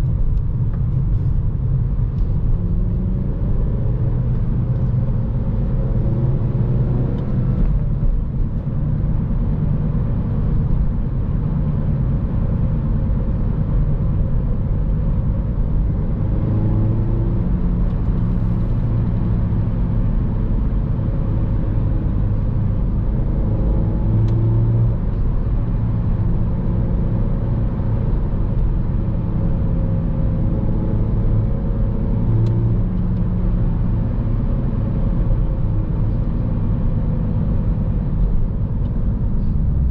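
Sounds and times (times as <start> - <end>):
road noise inside car: 0.0 - 39.9.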